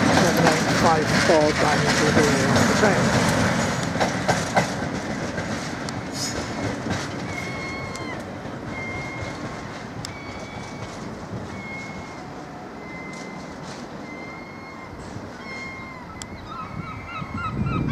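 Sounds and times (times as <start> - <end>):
train wheels clacking on rails: 0.0 - 15.8.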